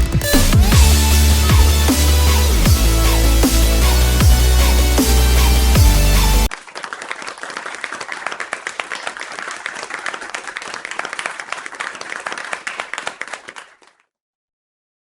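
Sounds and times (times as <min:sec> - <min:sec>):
crowd applauding: 0:00.7 - 0:14.0.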